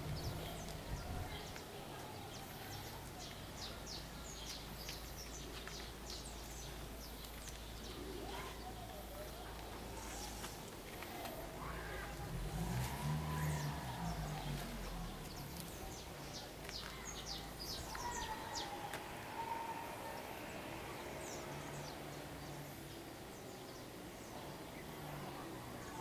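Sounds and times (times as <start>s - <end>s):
birds chirping: 0.0s - 26.0s
faint outdoor hiss: 0.0s - 26.0s.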